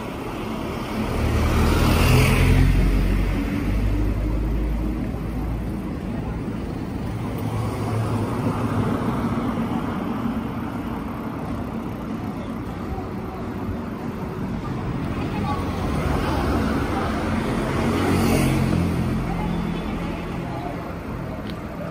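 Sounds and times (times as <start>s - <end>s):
cars going by: 0.0s - 21.9s.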